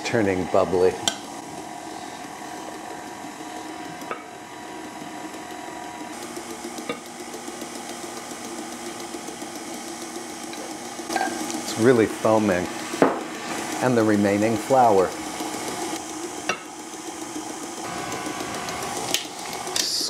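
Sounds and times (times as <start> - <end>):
stand mixer motor humming: 0.0 - 20.0.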